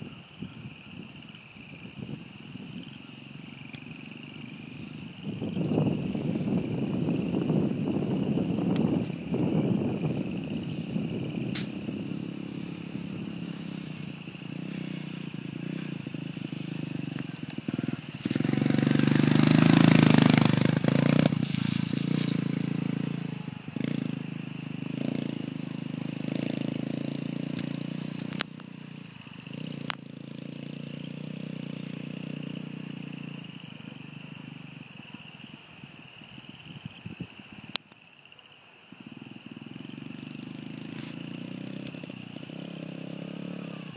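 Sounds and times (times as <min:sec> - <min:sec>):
dirt bike engine passing: 0:01.6 - 0:35.6, 0:39.0 - 0:43.9.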